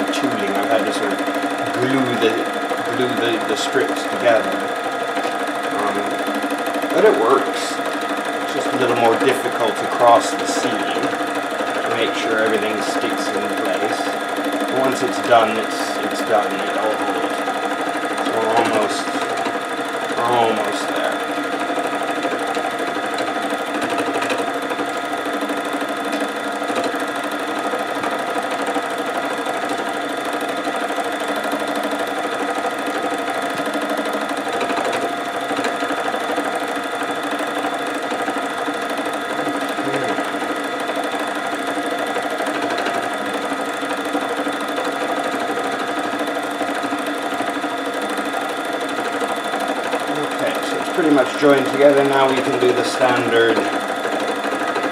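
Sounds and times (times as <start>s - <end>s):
felting machine humming: 0.0s - 54.9s.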